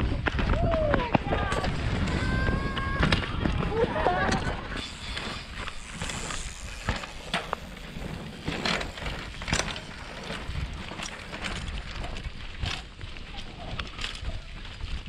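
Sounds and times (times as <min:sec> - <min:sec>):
bike clicks and rattles: 0:00.0 - 0:15.0
mountain bikes on bumpy dirt: 0:00.0 - 0:15.0.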